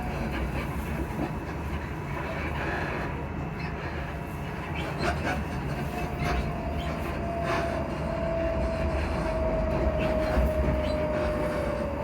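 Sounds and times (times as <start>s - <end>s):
low train running rumble: 0.0s - 12.0s.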